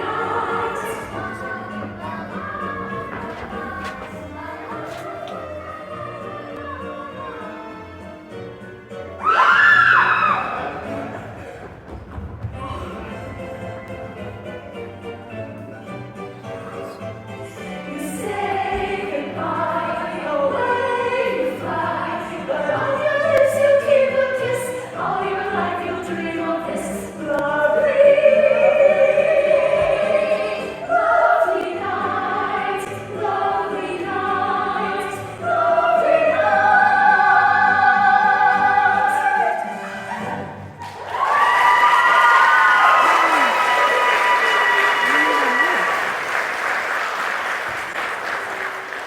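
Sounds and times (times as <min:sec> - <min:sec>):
voices singing in harmony: 0:00.0 - 0:11.8, 0:17.6 - 0:45.9.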